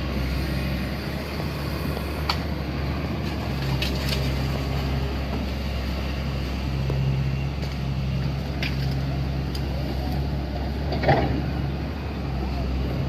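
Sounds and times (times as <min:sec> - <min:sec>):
machinery engine humming: 0:00.0 - 0:13.0.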